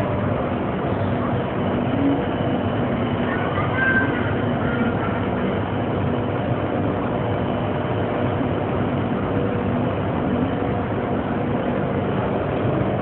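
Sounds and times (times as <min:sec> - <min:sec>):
metro train equipment hum: 0:00.0 - 0:13.0.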